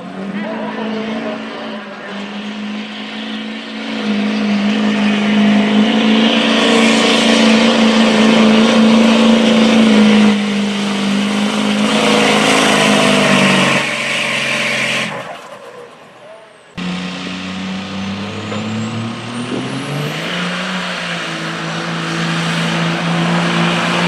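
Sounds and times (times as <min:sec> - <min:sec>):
diesel pickup engine under heavy load: 0:00.0 - 0:24.0
loud rushing exhaust: 0:00.0 - 0:24.0.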